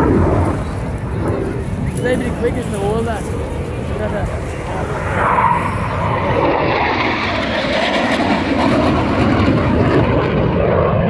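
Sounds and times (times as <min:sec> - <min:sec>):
aircraft engine flying past: 0:00.0 - 0:11.0.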